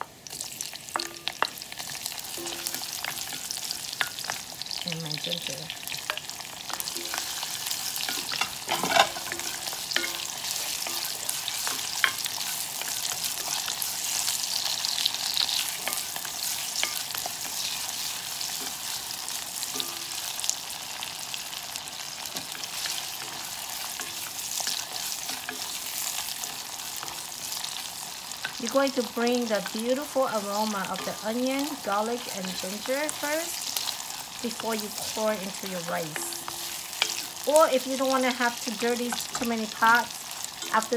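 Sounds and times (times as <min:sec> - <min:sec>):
vegetables sizzling in hot oil: 0:00.0 - 0:40.9.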